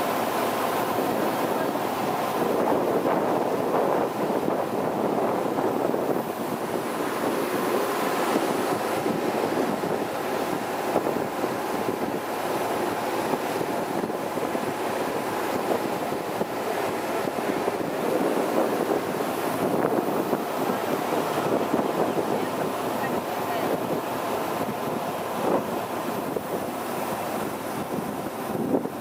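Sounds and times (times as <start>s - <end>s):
boat engine: 0.0s - 29.0s
churning wake: 0.0s - 29.0s
wind on microphone: 0.0s - 29.0s.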